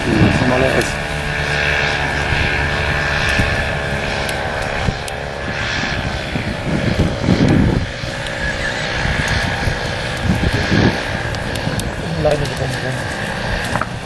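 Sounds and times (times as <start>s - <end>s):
paramotor engine droning: 0.0s - 14.0s
wind gusts on microphone: 0.0s - 14.0s.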